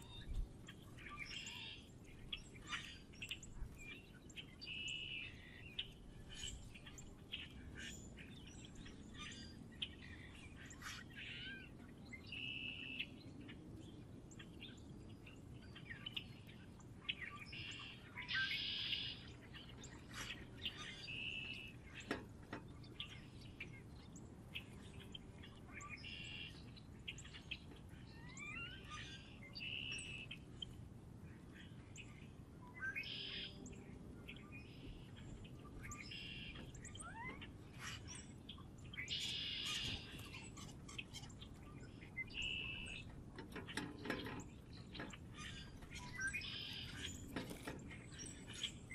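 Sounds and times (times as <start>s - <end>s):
wild birds chirping: 0.0s - 48.9s.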